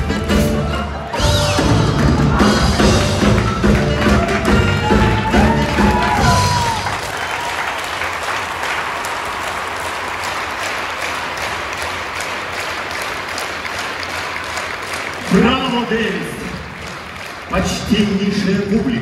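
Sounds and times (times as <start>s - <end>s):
audience applauding: 0.4s - 19.0s.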